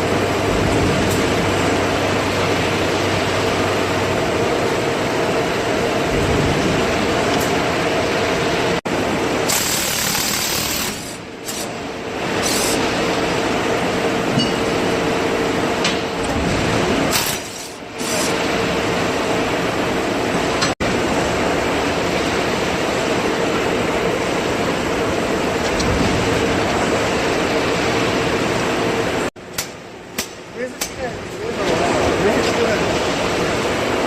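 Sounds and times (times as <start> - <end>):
loud machinery hum: 0.0 - 34.0.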